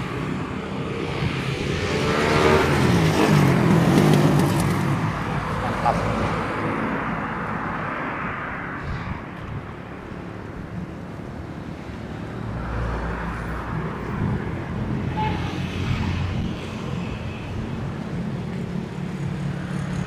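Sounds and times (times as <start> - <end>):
passing vehicle engine and tyres: 0.0 - 20.0.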